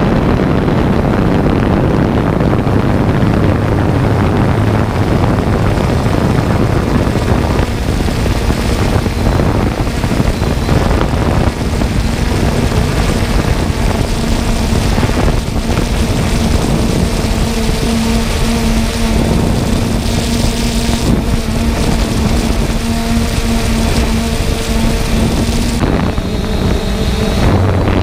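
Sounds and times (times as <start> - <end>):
drone propellers and motors: 0.0 - 28.0.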